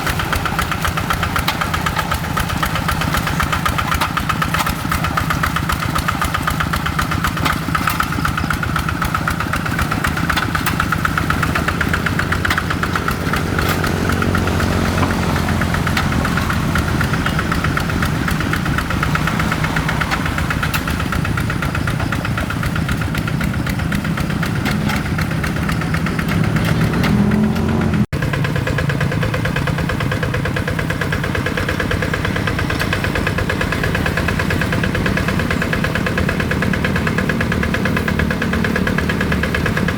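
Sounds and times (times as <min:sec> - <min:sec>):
single-cylinder diesel engine running: 0:00.0 - 0:39.9.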